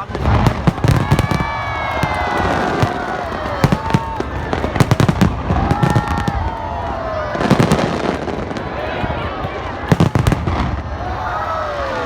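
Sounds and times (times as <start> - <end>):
fireworks bangs and crackles: 0.0 - 12.0
fireworks whistling downward: 0.0 - 12.0.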